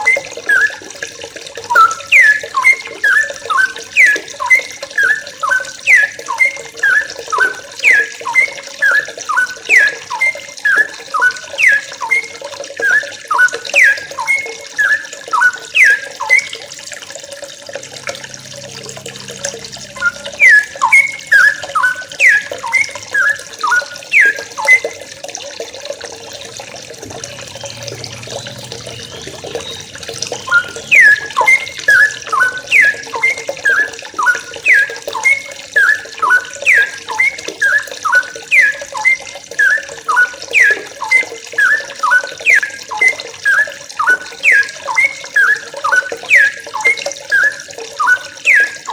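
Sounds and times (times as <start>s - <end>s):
steady hiss like running water: 0.0s - 48.9s
birds chirping: 1.6s - 16.5s, 17.8s - 25.1s, 26.6s - 48.9s.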